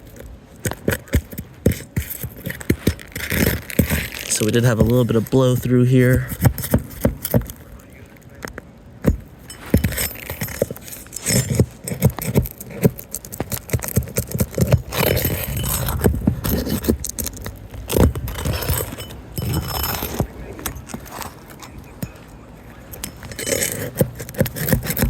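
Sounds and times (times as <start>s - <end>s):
hand tools scraping and clinking: 0.0s - 25.0s
shingles being handled: 0.0s - 25.0s.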